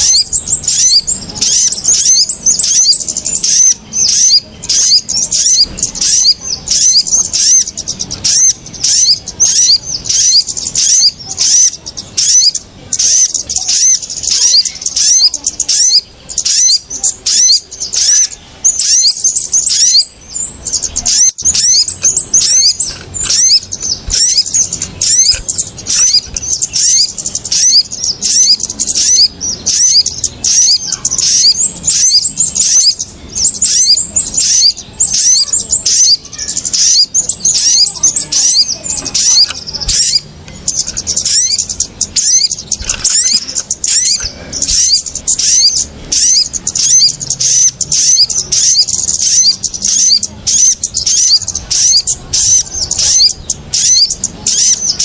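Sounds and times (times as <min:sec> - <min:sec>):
small birds chirping in alarm: 0:00.0 - 0:55.0.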